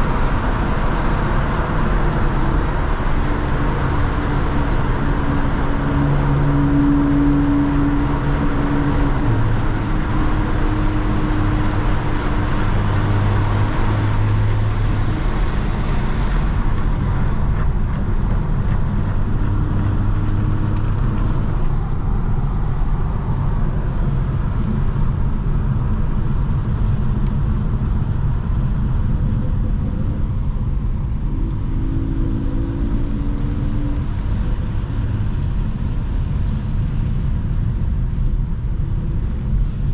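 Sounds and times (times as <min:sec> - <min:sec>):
car engine and exhaust drone: 0:00.0 - 0:39.9
road and tyre noise: 0:00.0 - 0:39.9.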